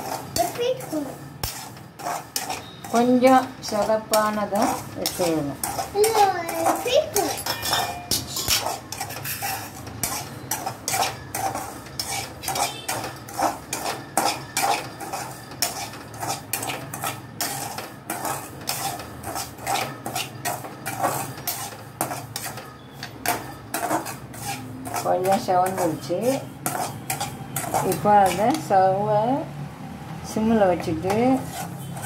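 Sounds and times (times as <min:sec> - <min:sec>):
metal spoon scraping metal pan: 0:00.0 - 0:29.1, 0:30.4 - 0:32.0.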